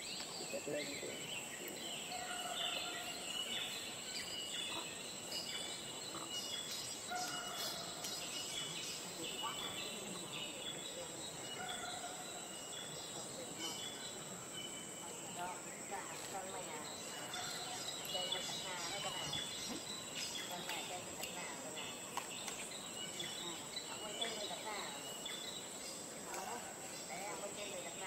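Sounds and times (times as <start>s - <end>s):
bird chirps and calls: 0.0s - 28.0s.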